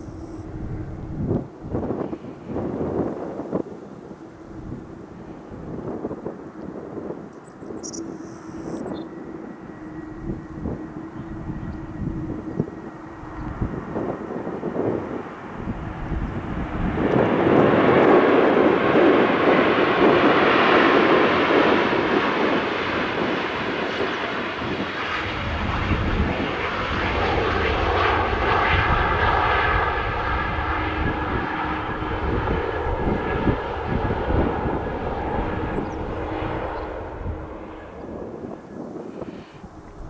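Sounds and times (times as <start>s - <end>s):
airliner engines roaring: 0.0s - 40.0s.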